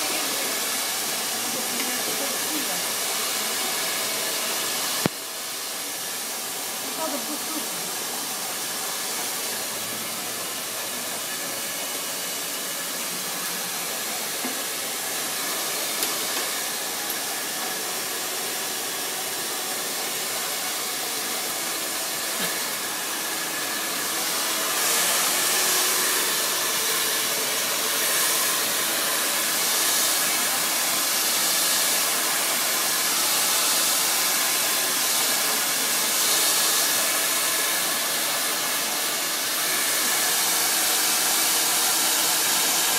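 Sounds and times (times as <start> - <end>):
blow dryer running: 0.0 - 42.9.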